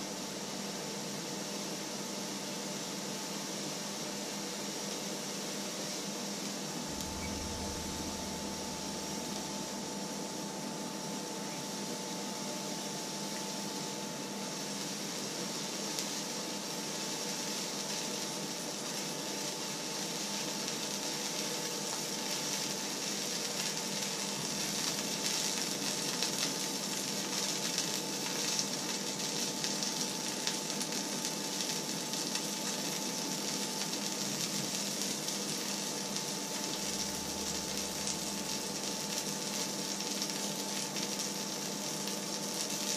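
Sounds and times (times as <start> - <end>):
oil sizzling in a frying pan: 0.0 - 42.9
faint steady hum: 6.2 - 42.6.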